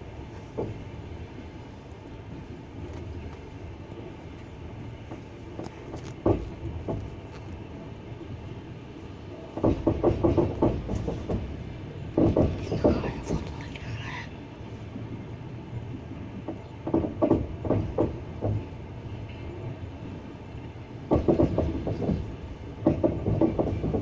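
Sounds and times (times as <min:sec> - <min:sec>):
train wheels clattering over rail joints: 0:00.0 - 0:14.1, 0:16.0 - 0:24.0.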